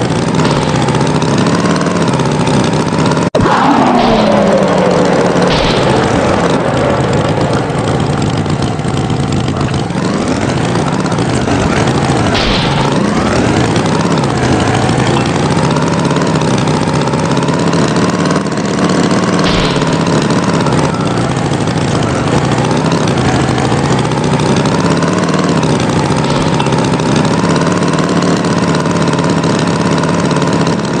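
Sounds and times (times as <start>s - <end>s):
tractor engine revving: 0.0s - 31.0s.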